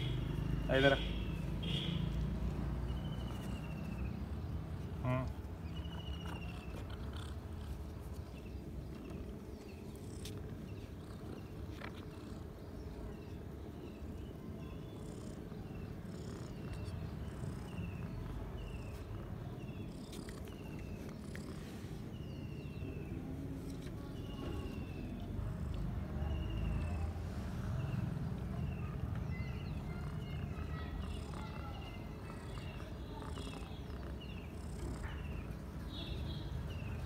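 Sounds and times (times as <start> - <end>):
cats purring: 2.4 - 37.0.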